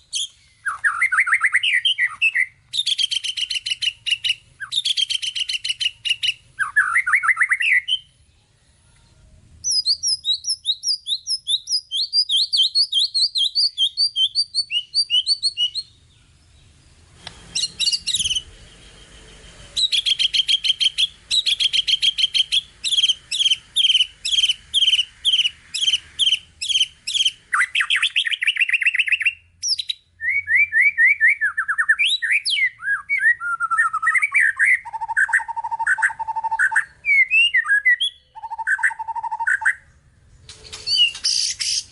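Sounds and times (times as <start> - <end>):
songbird singing chirps and trills: 0.0 - 41.9.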